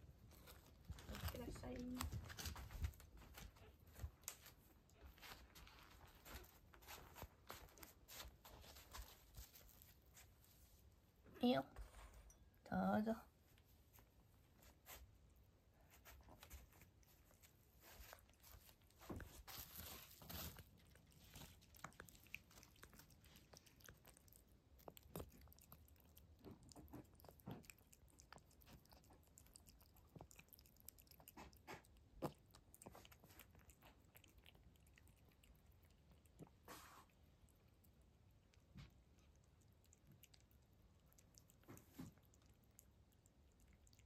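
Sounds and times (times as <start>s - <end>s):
cat chewing and lapping food: 0.0s - 44.0s.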